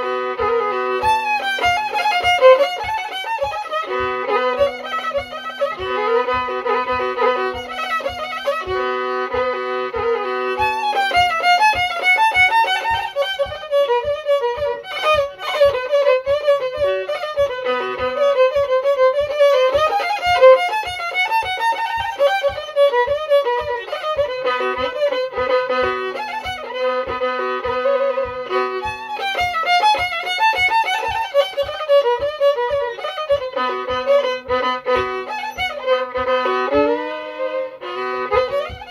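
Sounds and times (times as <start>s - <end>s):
low thump keeping the beat: 0.0s - 38.9s
solo violin tune with drone: 0.0s - 38.9s.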